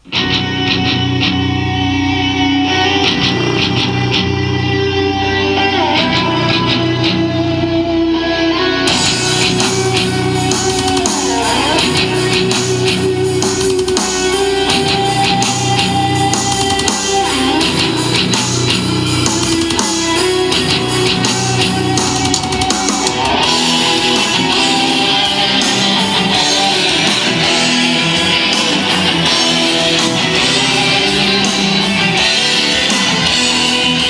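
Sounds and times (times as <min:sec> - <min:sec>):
rock music from a stereo: 0:00.0 - 0:34.0.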